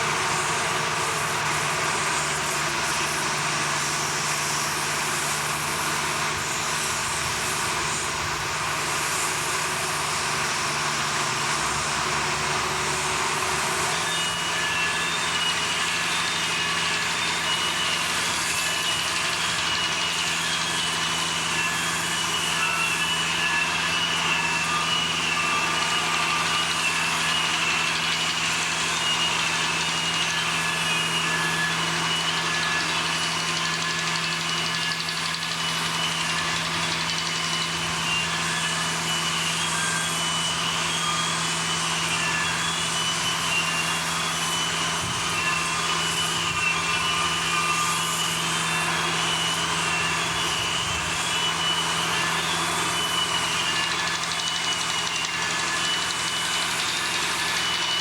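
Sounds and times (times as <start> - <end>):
heavy machinery running: 0.0 - 58.0.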